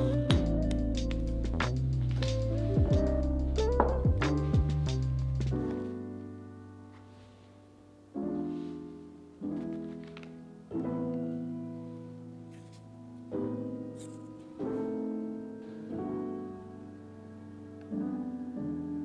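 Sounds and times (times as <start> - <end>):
soft piano chords: 0.0 - 19.0.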